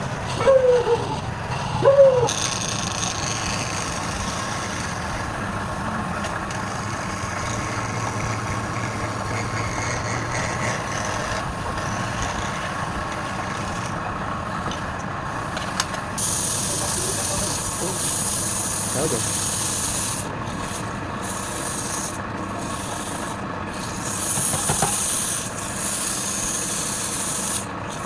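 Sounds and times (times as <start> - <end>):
wood lathe running: 0.0 - 28.0.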